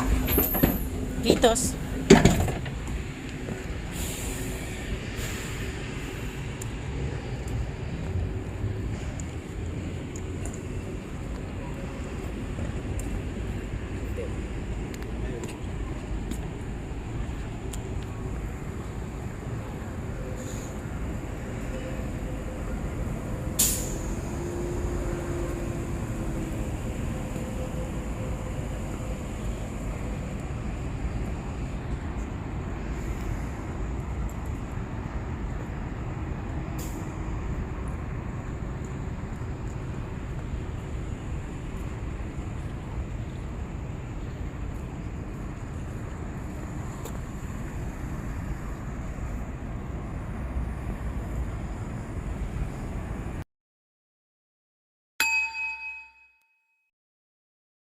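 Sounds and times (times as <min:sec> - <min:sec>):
bus rumbling from inside: 0:00.0 - 0:53.5.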